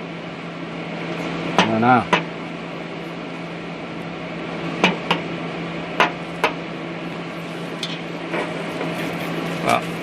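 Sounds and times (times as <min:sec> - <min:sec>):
welding machine humming: 0:00.0 - 0:10.0.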